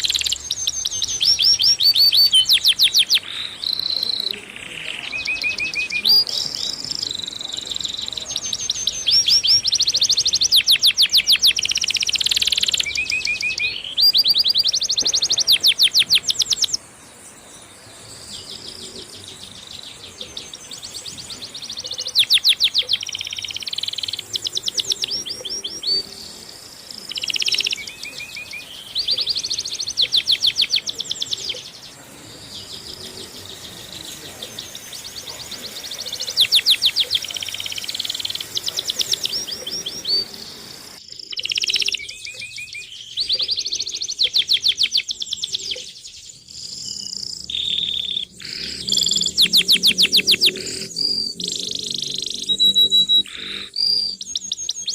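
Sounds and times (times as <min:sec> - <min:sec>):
birds chirping and trilling: 0:00.0 - 0:54.9.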